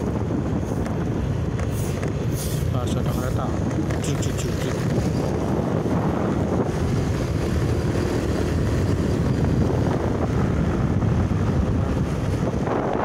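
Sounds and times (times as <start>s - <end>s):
vehicle running noise: 0.0s - 13.0s
wind buffeting microphone: 0.0s - 13.0s.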